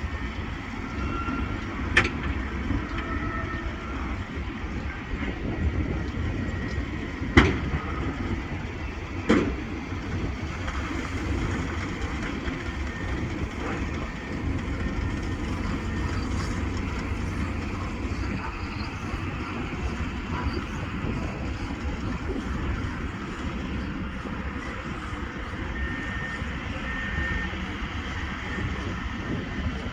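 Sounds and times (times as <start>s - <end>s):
tractor and baler running: 0.0s - 29.9s.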